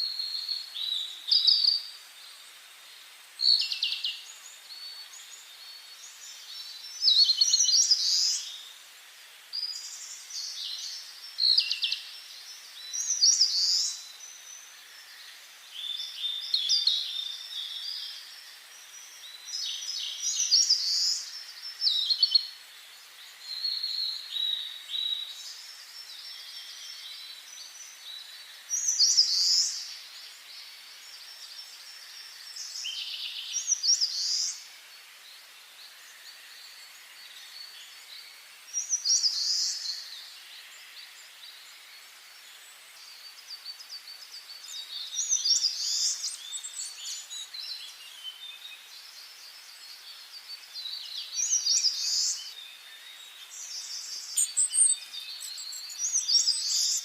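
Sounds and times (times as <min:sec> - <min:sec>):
faint steady background hiss: 0:00.0 - 0:57.0
songbirds chirping and trilling: 0:00.0 - 0:57.0.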